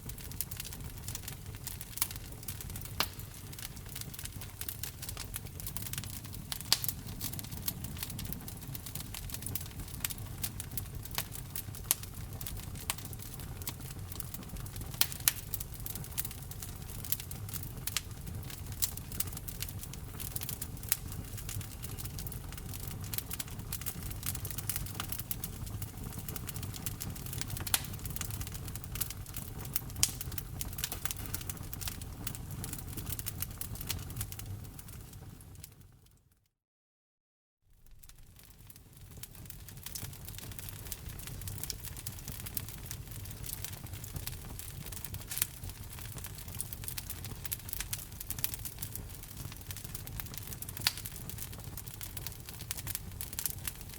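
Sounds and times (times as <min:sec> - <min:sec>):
low fire rumble: 0:00.0 - 0:35.8, 0:37.8 - 0:53.9
wood fire crackling and popping: 0:00.0 - 0:36.0, 0:37.8 - 0:53.9.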